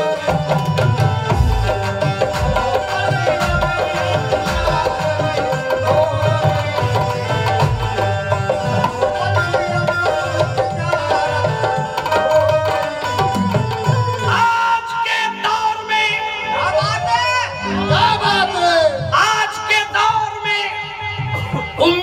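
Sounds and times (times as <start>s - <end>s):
tabla playing a rhythm: 0.0s - 22.0s.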